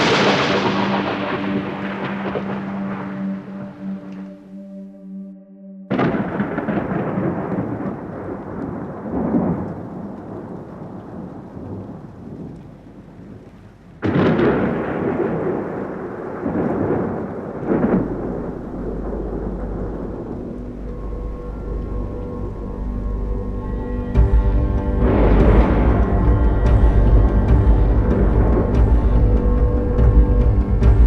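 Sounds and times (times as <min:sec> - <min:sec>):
thunder clap and rumble: 0:00.0 - 0:04.1, 0:05.9 - 0:31.0.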